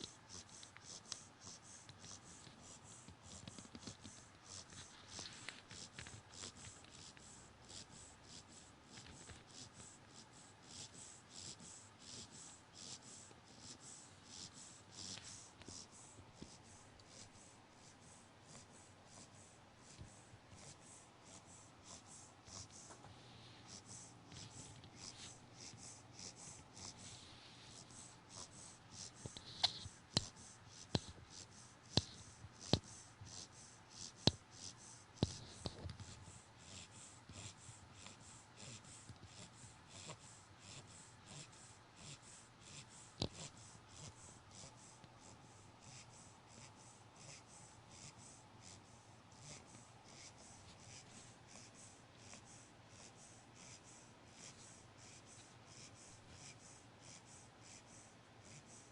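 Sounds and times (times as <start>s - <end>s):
puppy snoring: 0.0s - 58.9s.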